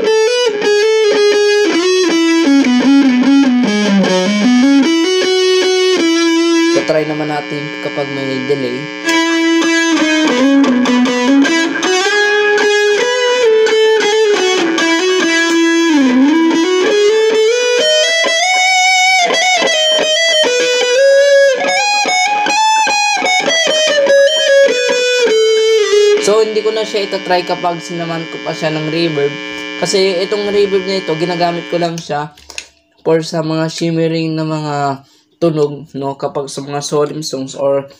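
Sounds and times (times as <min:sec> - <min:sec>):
distorted electric guitar: 0:00.0 - 0:34.8.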